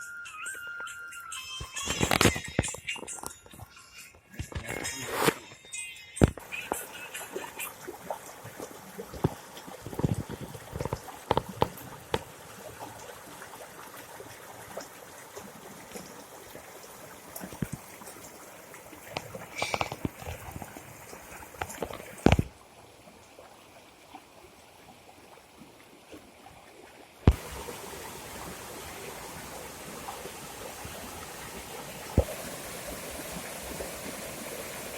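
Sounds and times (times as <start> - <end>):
floodwater flowing: 1.1 - 34.9.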